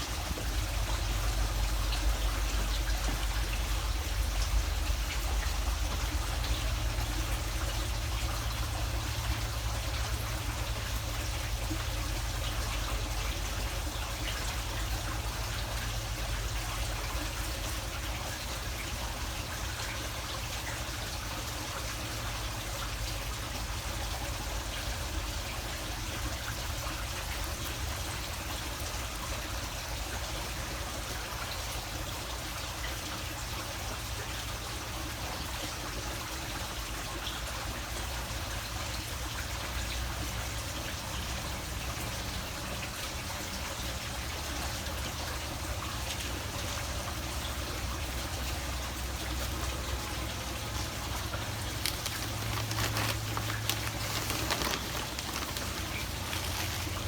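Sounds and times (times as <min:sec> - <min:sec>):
water trickling: 0:00.0 - 0:57.0.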